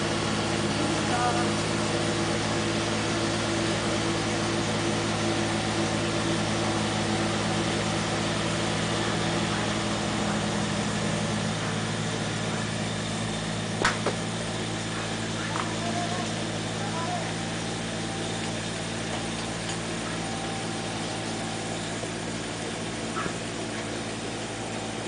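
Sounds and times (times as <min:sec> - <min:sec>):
diesel tractor engine drone: 0:00.0 - 0:25.0.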